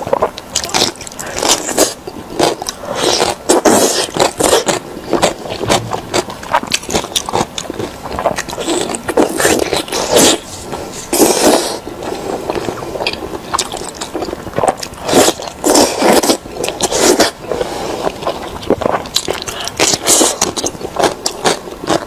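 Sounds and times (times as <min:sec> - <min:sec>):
person chewing meat: 0:00.0 - 0:22.0.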